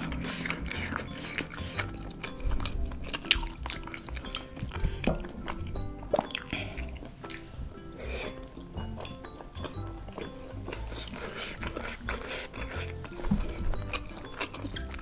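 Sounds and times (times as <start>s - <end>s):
chewing: 0.0s - 15.0s
light background music: 0.0s - 15.0s.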